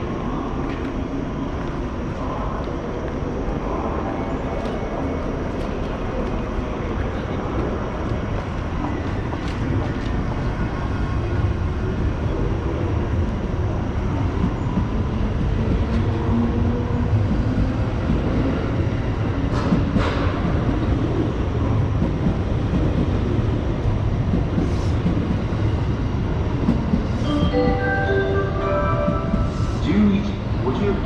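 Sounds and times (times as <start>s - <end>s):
electric train rumbling past: 0.0s - 31.0s.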